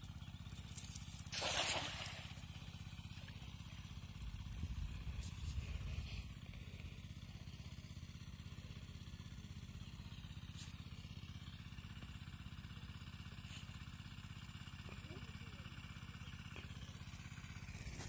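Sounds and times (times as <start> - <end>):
small engine idling: 0.0 - 18.0.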